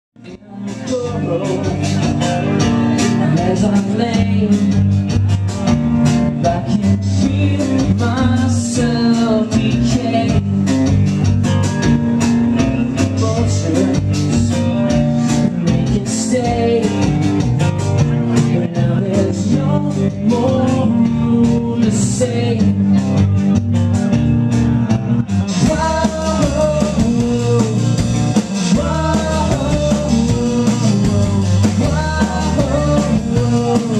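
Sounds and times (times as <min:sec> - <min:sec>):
electric guitar: 0:00.2 - 0:33.9
live rock band playing: 0:00.2 - 0:33.9
steady drum beat: 0:00.2 - 0:33.9.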